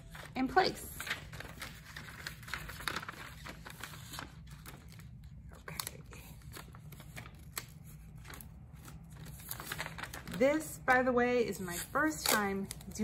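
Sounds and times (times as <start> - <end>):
plastic sheet and tape rustling: 0.0 - 13.0.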